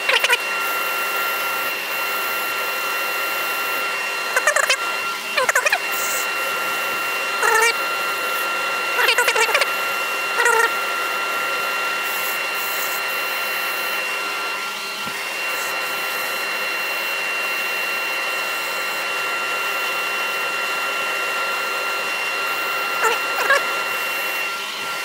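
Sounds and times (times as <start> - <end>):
dust extractor whining: 0.0 - 25.0
wood lathe spinning: 0.0 - 25.0
sanding pad on wood: 0.1 - 21.1.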